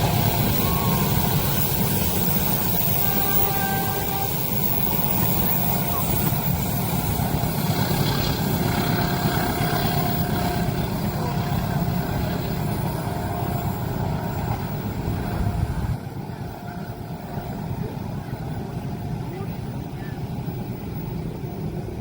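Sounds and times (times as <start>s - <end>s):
passing train rumble: 0.0s - 22.0s.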